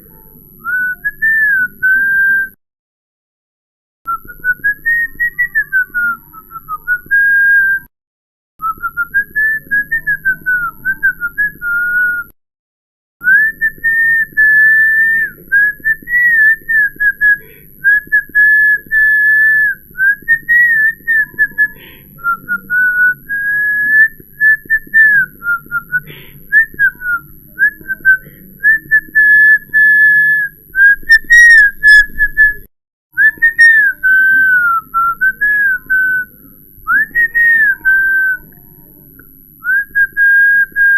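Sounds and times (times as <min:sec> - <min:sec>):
person whistling: 0:00.6 - 0:02.6, 0:04.1 - 0:07.9, 0:08.6 - 0:12.4, 0:13.2 - 0:36.3, 0:36.9 - 0:38.5, 0:39.6 - 0:40.9.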